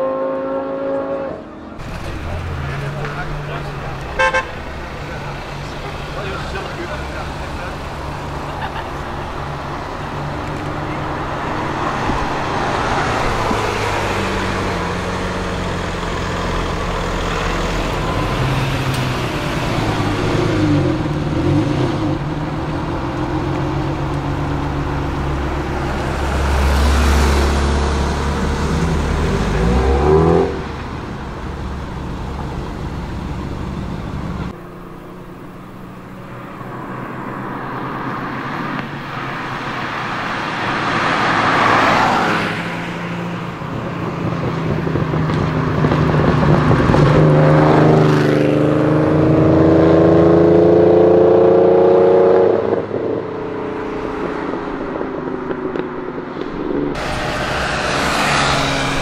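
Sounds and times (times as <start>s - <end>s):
passing car engine: 0.0s - 59.0s
sports car engines revving: 0.0s - 59.0s.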